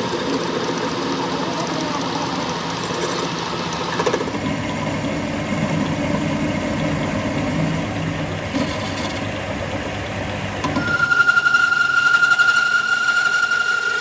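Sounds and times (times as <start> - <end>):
workshop machinery drone: 0.0 - 14.0.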